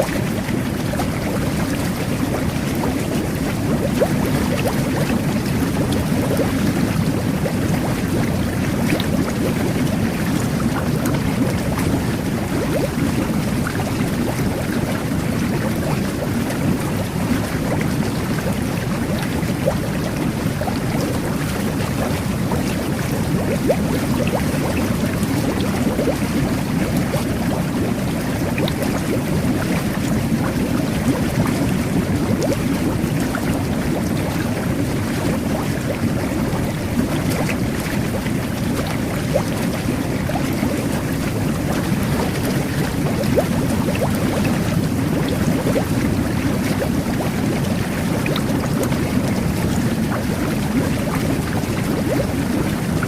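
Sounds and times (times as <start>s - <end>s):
small bubble pops: 0.0s - 53.0s
water jets churning and bubbling: 0.0s - 53.0s.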